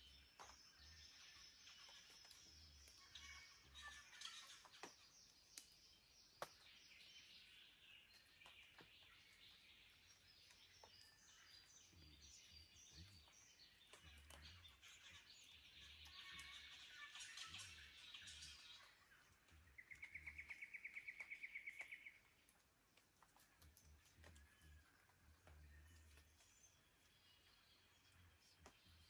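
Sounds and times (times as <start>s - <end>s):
birds chirping and calling: 0.0s - 29.0s.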